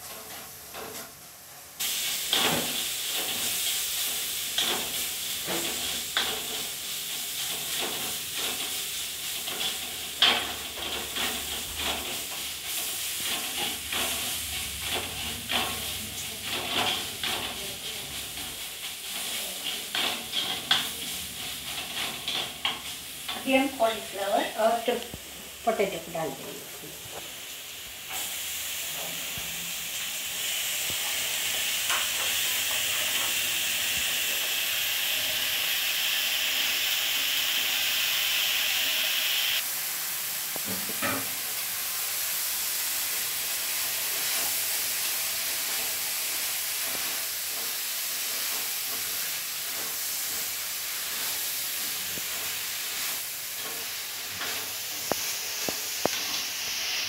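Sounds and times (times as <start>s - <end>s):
food stirred in pan: 0.0s - 57.0s
vegetables sizzling in hot oil: 0.0s - 57.0s.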